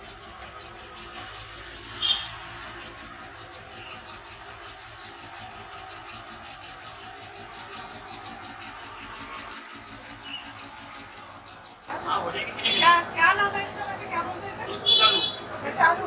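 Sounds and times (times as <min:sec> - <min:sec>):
faint traffic: 0:00.0 - 0:16.0.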